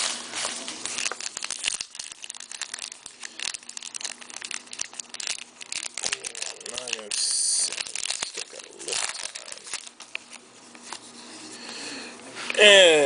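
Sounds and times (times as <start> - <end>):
wrapper crinkling and rustling: 0.0 - 11.2
cards being handled: 0.0 - 11.6.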